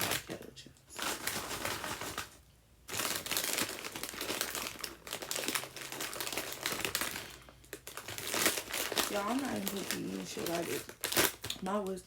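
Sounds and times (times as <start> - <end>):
chip bag crinkling: 0.0 - 12.0.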